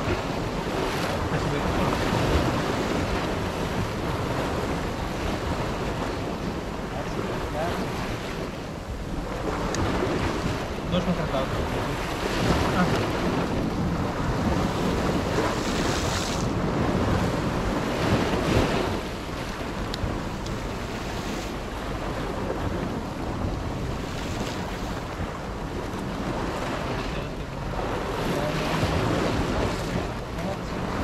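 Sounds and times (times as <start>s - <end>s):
waves breaking on rocks: 0.0s - 31.0s
wind buffeting microphone: 0.0s - 31.0s.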